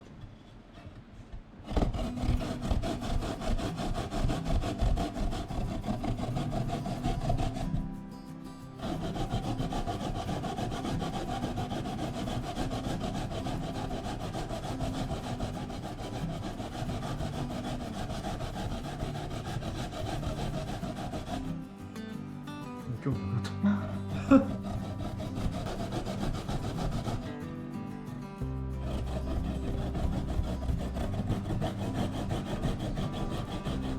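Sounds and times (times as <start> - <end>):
radish being grated: 1.7 - 22.6, 23.5 - 33.9.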